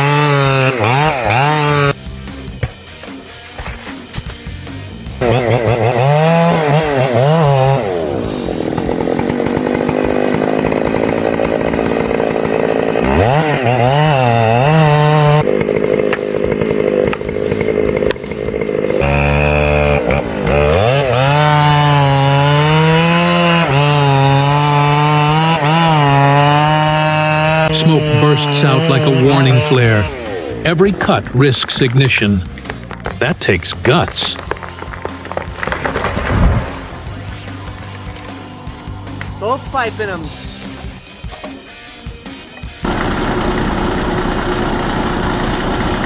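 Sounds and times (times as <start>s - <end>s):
chainsaw cutting at high revs: 0.0s - 2.0s, 4.9s - 46.0s.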